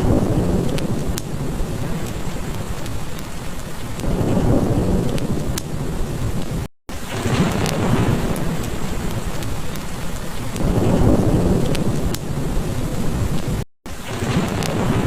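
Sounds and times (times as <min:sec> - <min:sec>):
heavy rain falling: 0:00.0 - 0:15.0
low roll of thunder: 0:00.0 - 0:15.0
wood fire crackling: 0:00.0 - 0:15.0.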